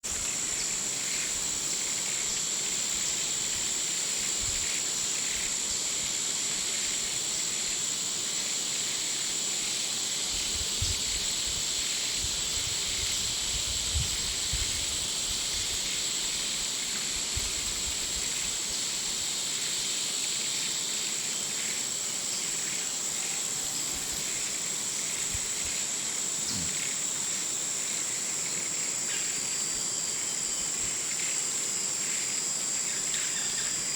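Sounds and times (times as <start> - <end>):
high-pitched insect drone: 0.1 - 33.9.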